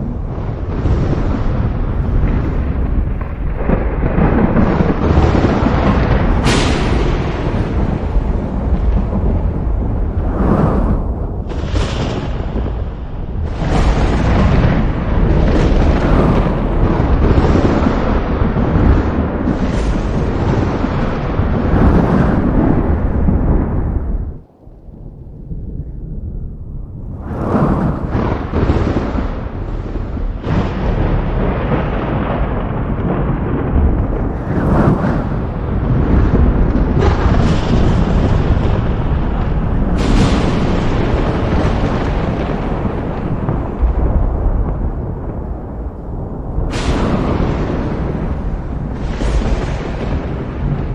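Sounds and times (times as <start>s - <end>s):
thunder rolling: 0.0s - 50.9s.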